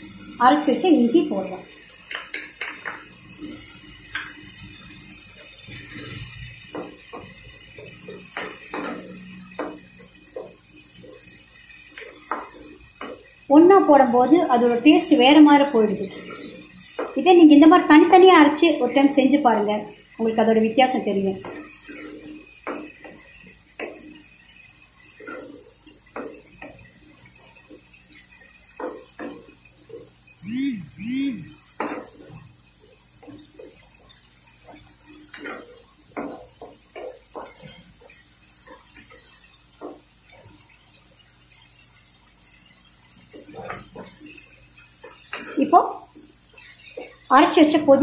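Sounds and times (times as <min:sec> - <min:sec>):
spatula scraping and tapping pan: 0:01.5 - 0:19.1, 0:21.0 - 0:30.3, 0:31.6 - 0:47.9.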